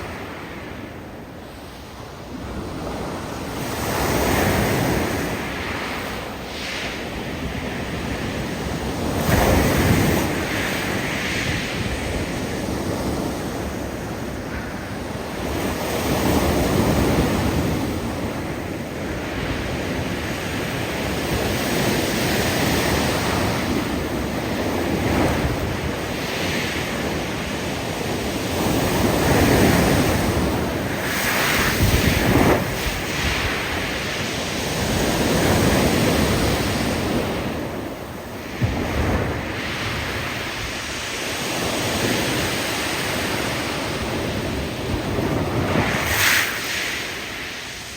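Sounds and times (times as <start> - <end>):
waves breaking: 0.0 - 47.9.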